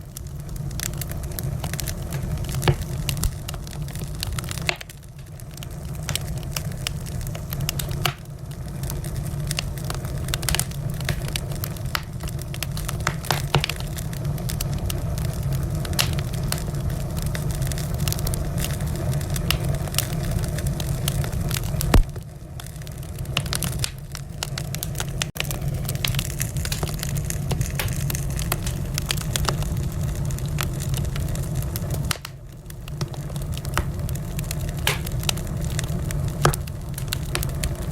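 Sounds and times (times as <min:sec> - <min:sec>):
low rumble of flames: 0:00.0 - 0:37.9
wood fire crackling and popping: 0:00.0 - 0:37.9.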